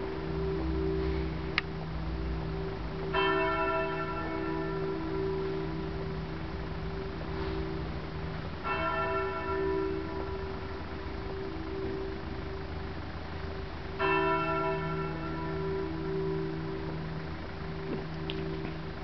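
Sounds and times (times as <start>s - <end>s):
hum of ringing bells: 0.0s - 19.0s
bell strikes: 2.2s - 12.7s, 14.0s - 18.9s.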